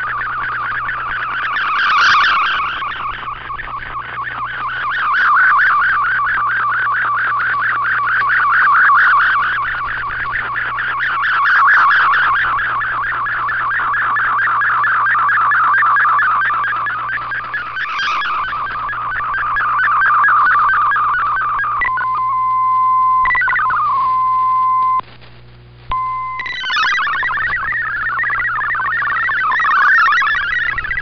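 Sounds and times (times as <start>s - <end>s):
warbling data tone: 0.0s - 25.0s, 25.9s - 31.0s
steady low hum: 0.0s - 31.0s.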